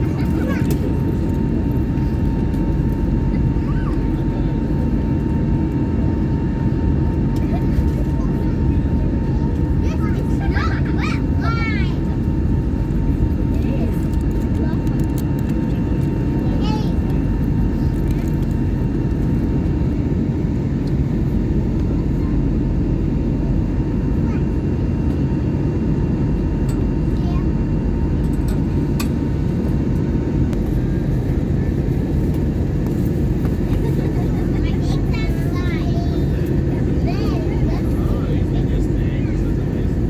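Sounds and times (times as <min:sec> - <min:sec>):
airplane cabin drone: 0:00.0 - 0:40.0.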